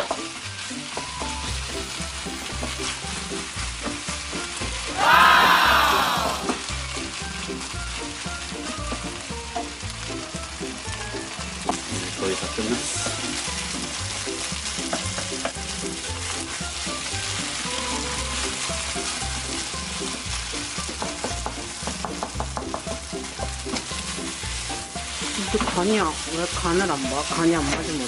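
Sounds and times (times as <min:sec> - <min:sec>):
wooden spatula scraping and tapping: 0:00.0 - 0:04.8, 0:06.5 - 0:28.0
fried rice sizzling in a pan: 0:00.0 - 0:28.0.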